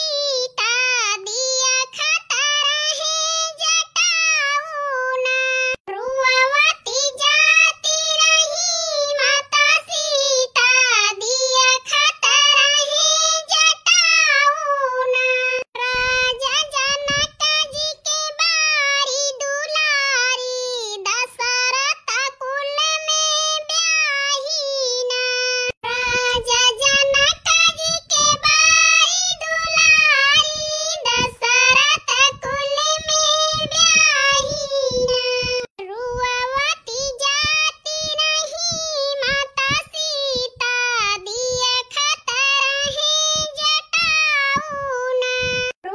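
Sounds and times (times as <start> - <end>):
high-pitched voice singing: 0.0 - 45.9.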